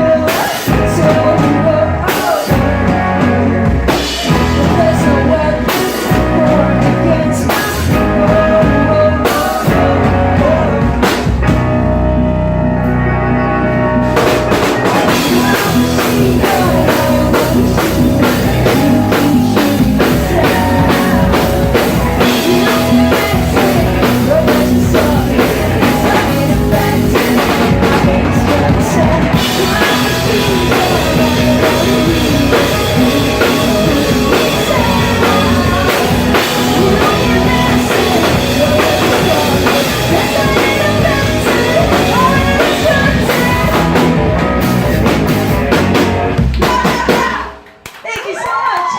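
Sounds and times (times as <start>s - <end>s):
live rock band playing: 0.0s - 47.5s
fast dense drumming: 0.2s - 11.8s, 14.0s - 47.4s.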